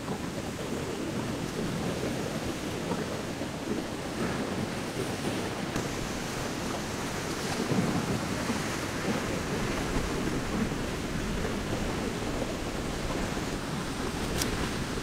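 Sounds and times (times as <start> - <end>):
ocean waves on a beach: 0.0 - 15.0
wind buffeting the microphone: 0.0 - 15.0.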